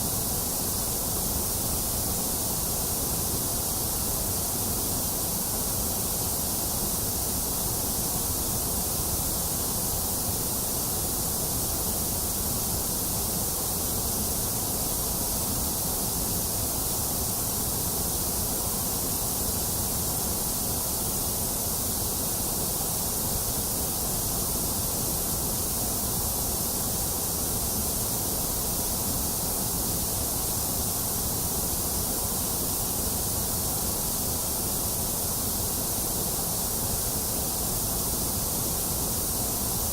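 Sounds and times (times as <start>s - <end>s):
electronic white noise hiss: 0.0s - 39.9s.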